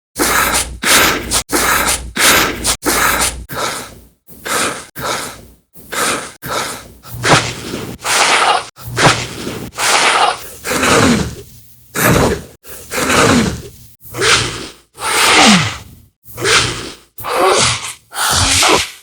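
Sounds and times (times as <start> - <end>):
person breathing and gasping: 0.2 - 18.9.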